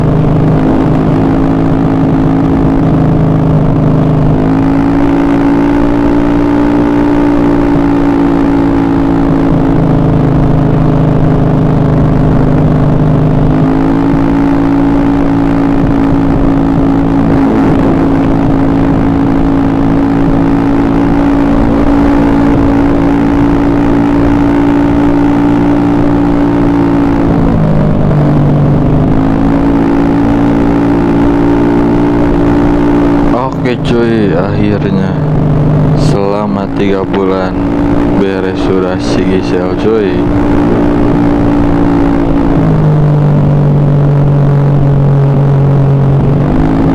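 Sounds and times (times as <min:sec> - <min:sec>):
scooter engine running: 0:00.0 - 0:46.9.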